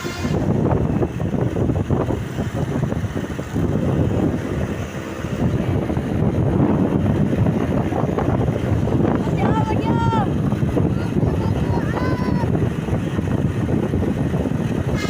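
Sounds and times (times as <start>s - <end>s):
bus engine rumbling: 0.0s - 15.0s
wind buffeting microphone: 0.0s - 15.0s.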